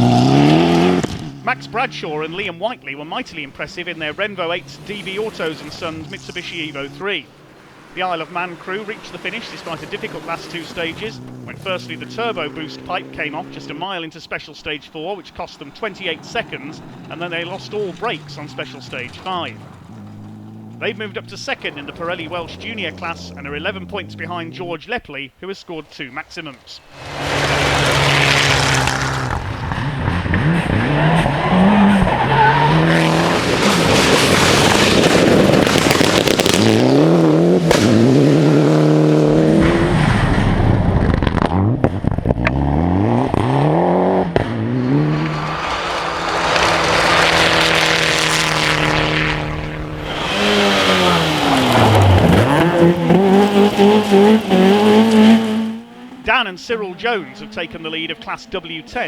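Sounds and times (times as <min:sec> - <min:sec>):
rally car engine revving: 0:00.0 - 0:25.0, 0:25.7 - 0:59.0
tyre noise: 0:00.0 - 0:59.0.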